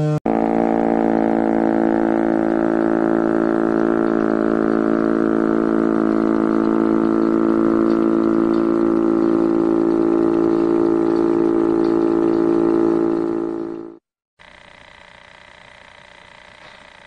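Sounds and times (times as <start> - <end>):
air raid siren droning: 0.0 - 14.0.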